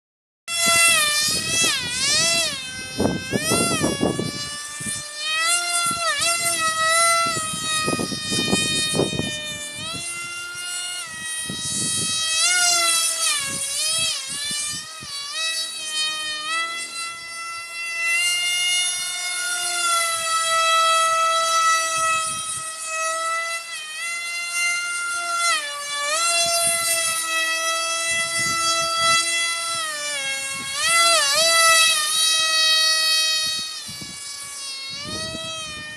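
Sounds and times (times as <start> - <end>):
model plane motor whine: 0.5 - 35.9.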